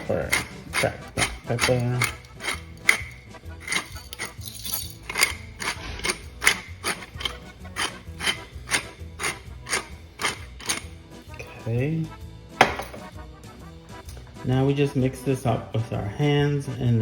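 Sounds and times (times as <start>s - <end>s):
background music with percussive beat: 0.0s - 14.4s.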